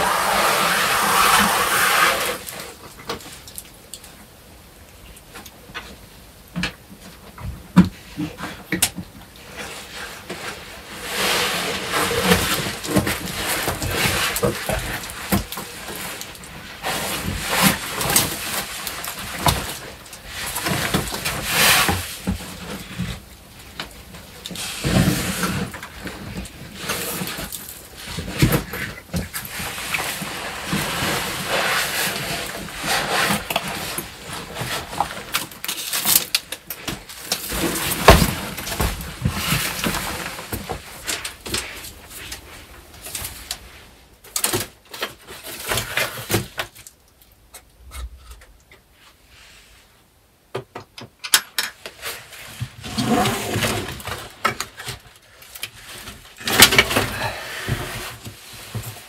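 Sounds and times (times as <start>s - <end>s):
scraping and rustling against rock: 0.0s - 4.3s, 5.2s - 50.1s, 51.7s - 59.0s.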